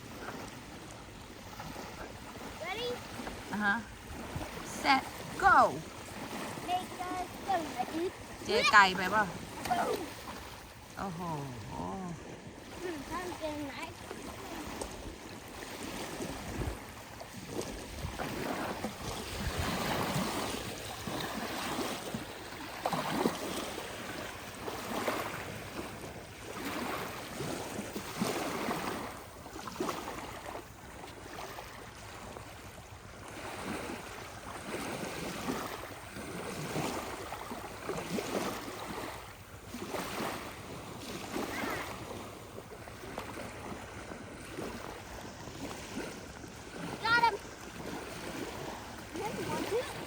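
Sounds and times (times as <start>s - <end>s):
seawater sloshing and splashing: 0.0s - 50.0s.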